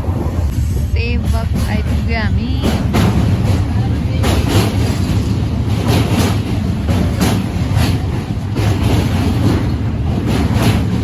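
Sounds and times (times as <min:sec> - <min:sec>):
train rumbling inside carriage: 0:00.0 - 0:11.0
train wheels clacking on rail joints: 0:01.1 - 0:11.0.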